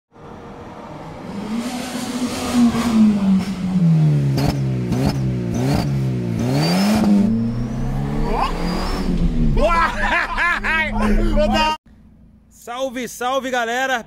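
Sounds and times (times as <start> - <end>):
car engine revving: 0.2 - 12.5.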